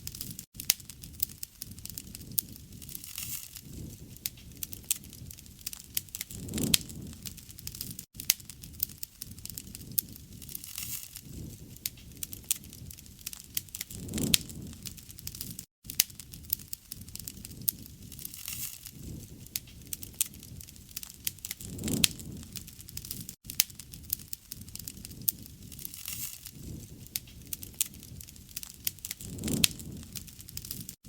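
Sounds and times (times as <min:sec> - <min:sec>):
fire pops and snaps: 0:00.0 - 0:31.0
low rush of burning fire: 0:00.0 - 0:31.0.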